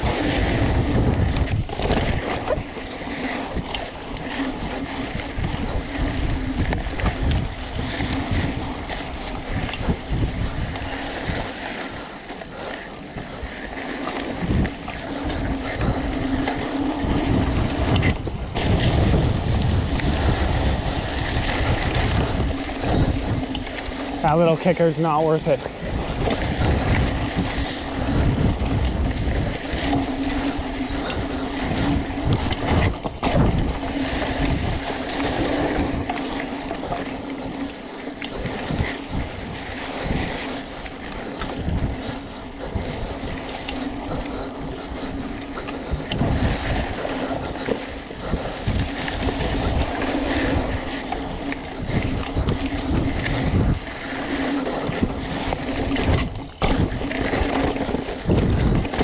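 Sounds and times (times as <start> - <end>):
bike knocking and rattling: 0.0 - 59.0
knobby tyres rolling: 0.0 - 59.0
wind buffeting microphone: 0.0 - 59.0.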